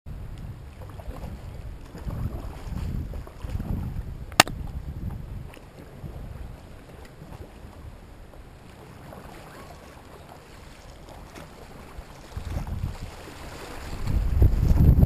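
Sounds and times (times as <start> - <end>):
wind rumble on microphone: 0.1 - 9.4, 11.3 - 15.0
water swirling and splashing: 0.7 - 4.1, 5.6 - 15.0.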